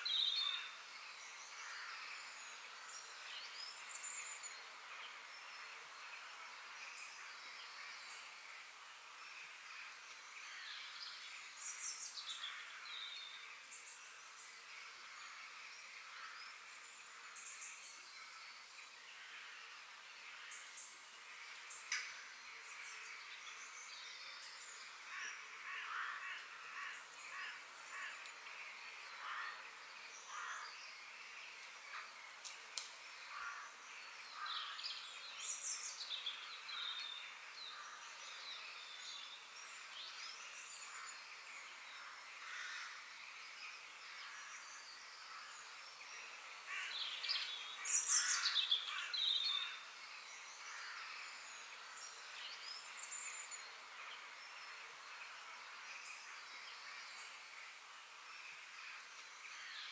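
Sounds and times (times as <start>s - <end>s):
birds calling and chirping: 0.0s - 59.9s
faint steady hiss: 0.0s - 59.9s.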